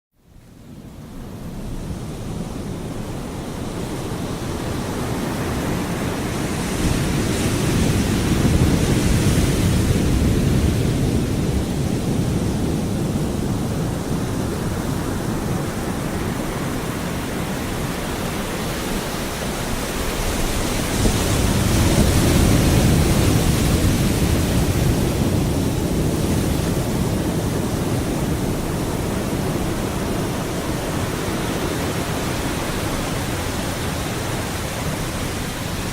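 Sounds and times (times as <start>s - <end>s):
wind: 0.1s - 35.9s
surf crashing onto beach: 3.2s - 35.9s.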